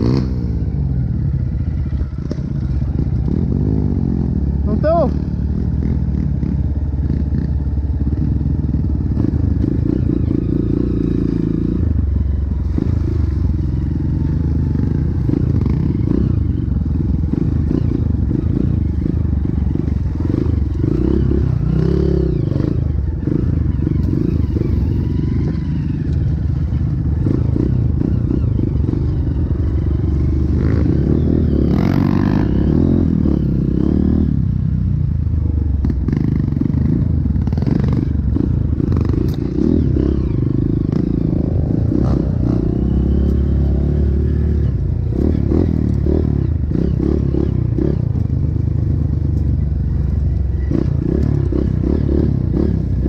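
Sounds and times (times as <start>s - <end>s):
dirt bike engine: 0.0s - 53.0s.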